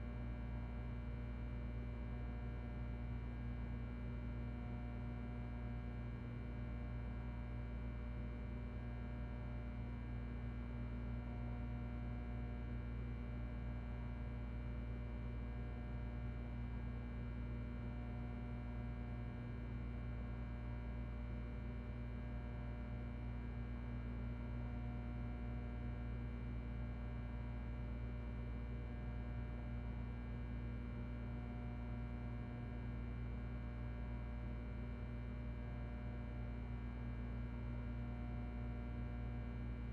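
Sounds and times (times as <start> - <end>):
low electrical hum: 0.0 - 39.9
ventilation fan: 0.0 - 39.9.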